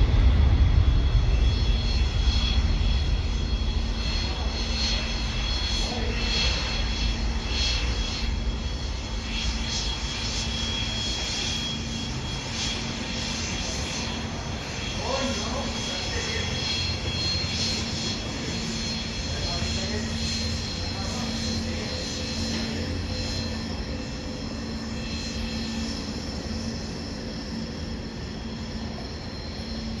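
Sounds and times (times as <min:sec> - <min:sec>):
faint high engine whine: 0:00.0 - 0:30.0
jet engines roaring: 0:00.0 - 0:30.0.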